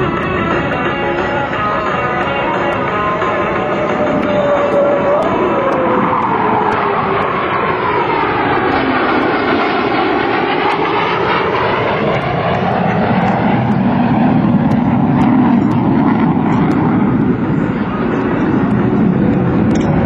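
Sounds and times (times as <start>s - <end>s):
fighter jet engines roaring past: 0.0s - 20.0s.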